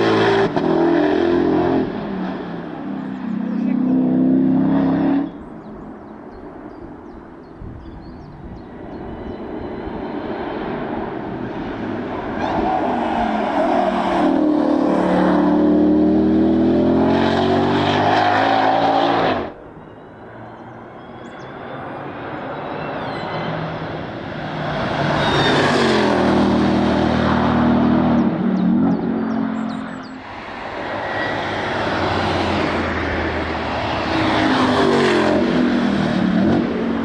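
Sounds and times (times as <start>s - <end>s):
race car engine passing: 0.0s - 5.7s, 8.7s - 37.0s.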